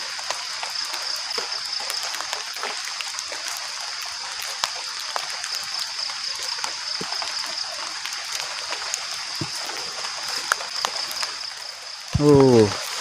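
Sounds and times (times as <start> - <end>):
drips and ticks: 0.0 - 13.0
light rain falling: 0.0 - 13.0.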